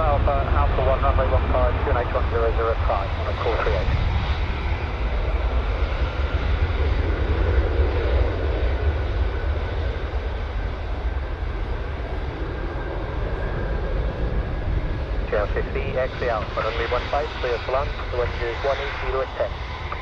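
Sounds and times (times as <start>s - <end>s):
airliner engine rumble: 0.0s - 20.0s.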